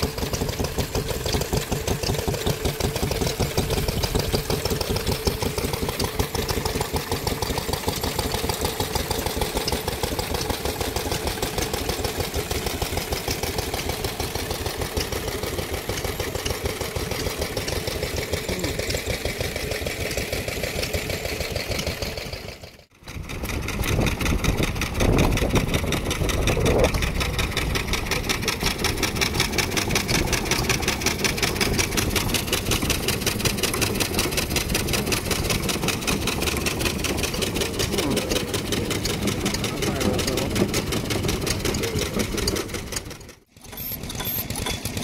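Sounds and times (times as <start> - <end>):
stationary engines running: 0.0 - 45.0.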